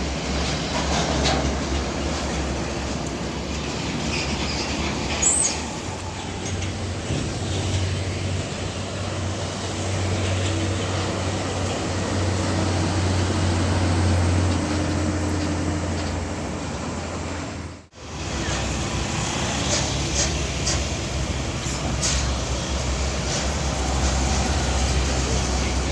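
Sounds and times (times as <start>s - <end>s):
diesel truck engine droning: 0.0s - 25.9s
road traffic: 0.0s - 25.9s.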